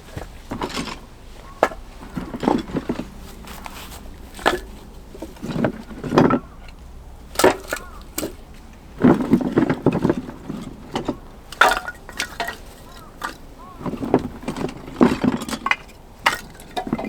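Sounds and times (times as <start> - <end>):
firewood knocking and clattering: 0.0 - 17.0.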